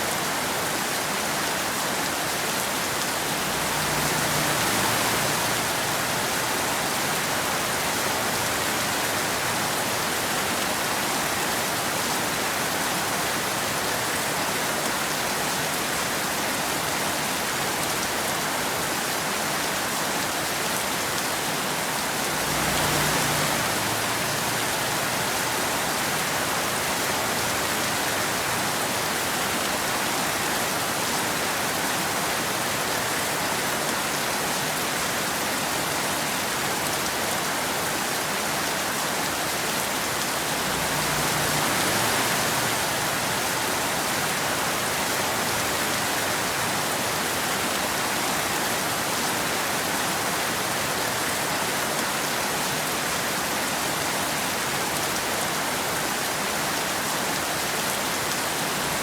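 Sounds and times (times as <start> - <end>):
rain falling: 0.1 - 59.0.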